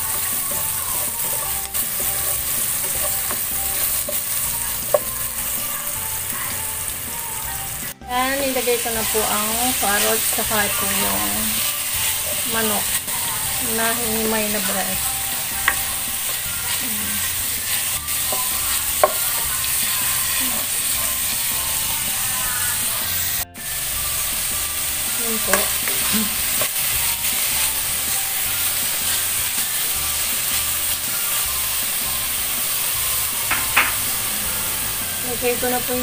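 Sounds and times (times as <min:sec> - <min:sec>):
spatula stirring in pan: 0:00.0 - 0:35.3
food sizzling in a pan: 0:00.0 - 0:36.0.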